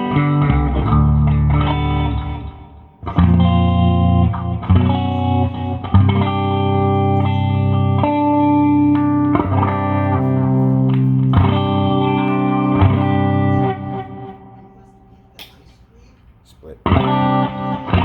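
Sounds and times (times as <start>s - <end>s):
clean electric guitar chords: 0.0s - 15.4s, 16.8s - 18.0s.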